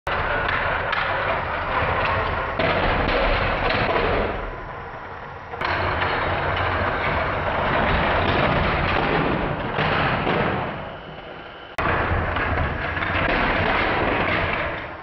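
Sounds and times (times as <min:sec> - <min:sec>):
toy train cars tumbling off track: 0:00.1 - 0:15.0.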